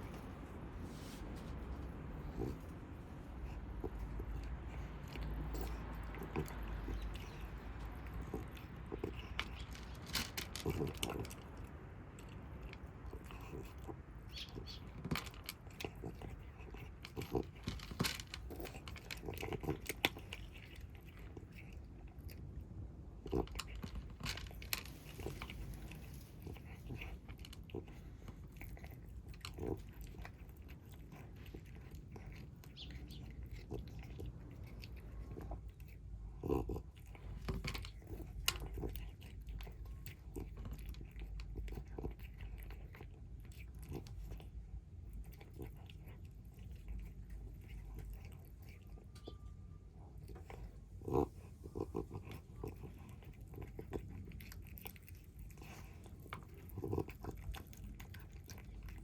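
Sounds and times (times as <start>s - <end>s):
kittens crunching and chewing food: 0.0s - 59.0s.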